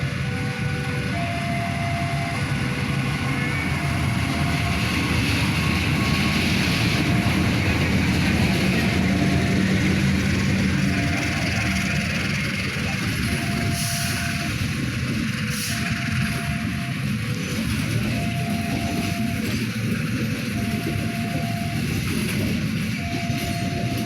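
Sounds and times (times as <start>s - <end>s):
diesel locomotive rumble: 0.0s - 24.0s
train wheels on rails: 0.0s - 24.0s.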